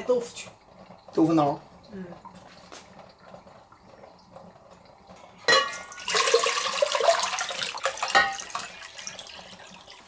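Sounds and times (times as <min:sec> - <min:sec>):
water pouring and splashing: 0:00.5 - 0:10.0.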